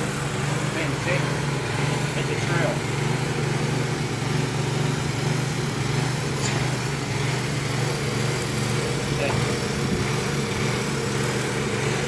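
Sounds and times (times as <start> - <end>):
motor droning steadily: 0.0 - 12.0.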